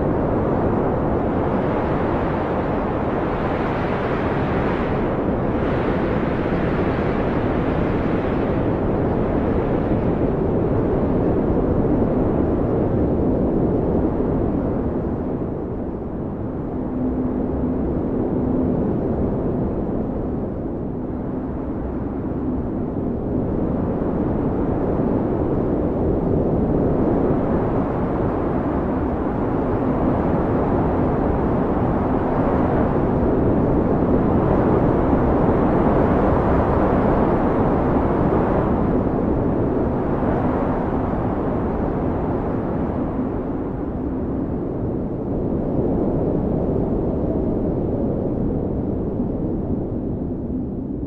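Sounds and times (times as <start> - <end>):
blizzard wind howling: 0.0 - 51.0.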